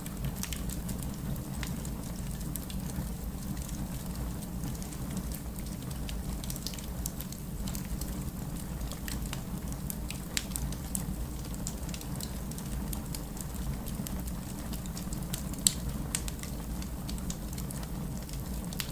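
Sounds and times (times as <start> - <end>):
fire crackling in a fireplace: 0.0 - 18.9.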